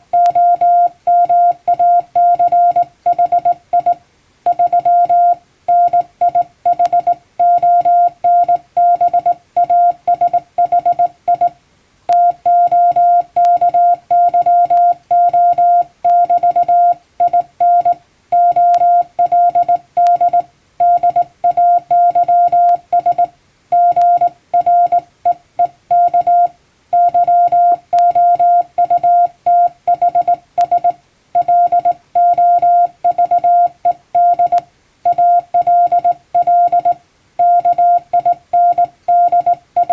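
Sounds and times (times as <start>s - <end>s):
morse code beeps: 0.1s - 39.9s.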